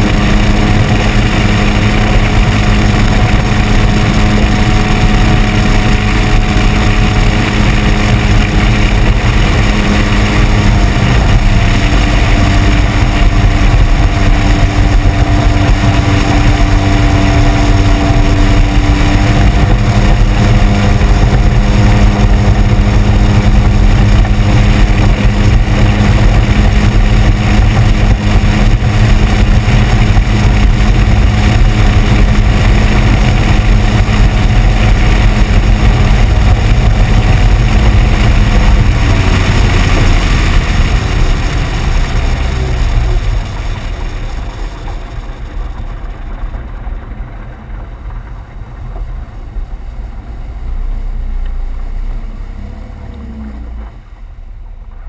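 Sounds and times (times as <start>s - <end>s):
outboard motor hum: 0.0s - 55.0s
water wash and wind: 0.0s - 55.0s.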